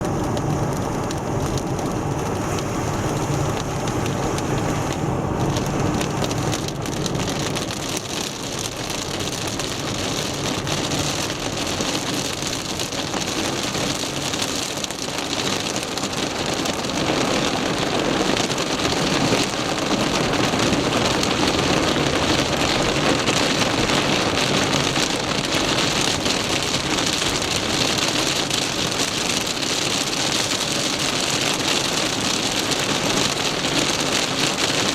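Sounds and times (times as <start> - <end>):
heavy rain pelting car: 0.0 - 34.9
tyres hissing on wet road: 0.1 - 34.9.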